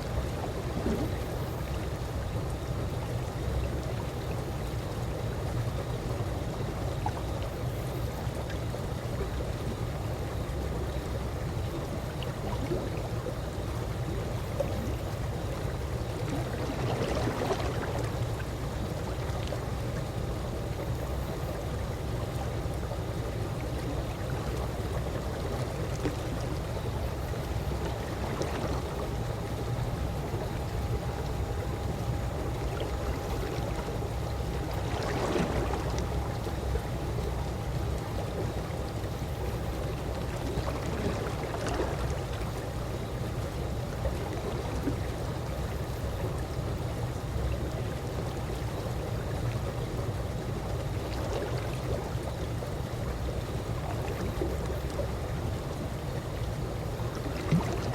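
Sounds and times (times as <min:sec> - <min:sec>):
pool water moving gently: 0:00.0 - 0:57.9.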